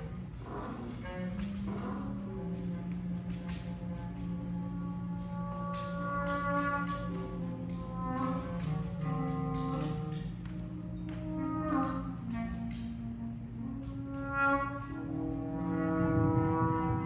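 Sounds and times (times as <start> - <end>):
saxophones and clarinet improvising: 0.0 - 17.0.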